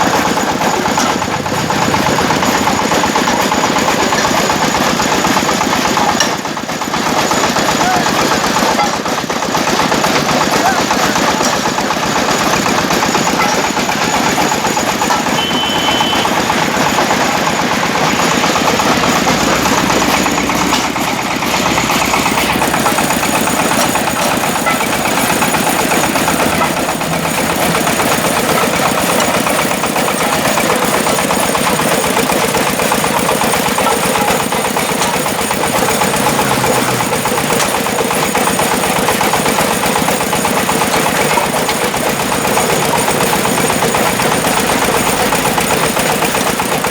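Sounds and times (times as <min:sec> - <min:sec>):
brick-breaking machine clattering: 0:00.0 - 0:46.9.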